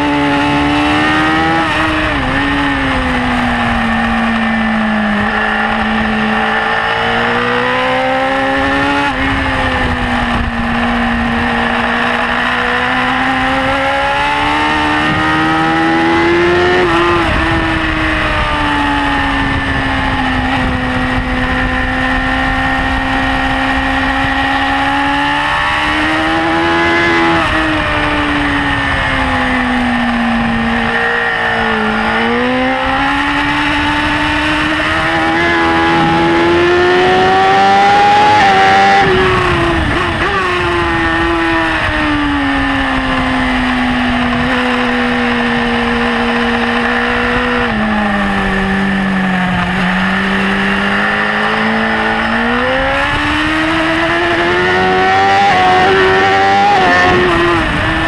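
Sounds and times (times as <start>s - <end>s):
motorcycle engine revving high: 0.0s - 58.0s
wind rush: 0.0s - 58.0s.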